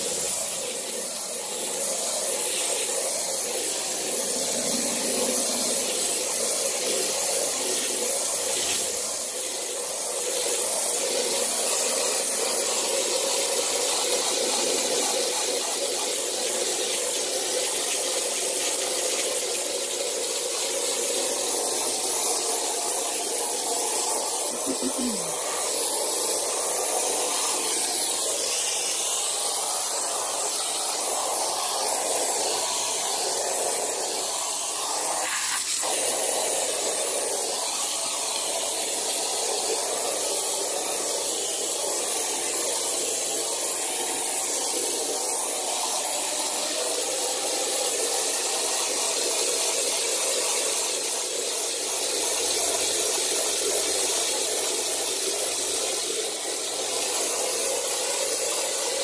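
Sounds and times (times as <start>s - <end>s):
hose spraying water: 0.0s - 59.0s.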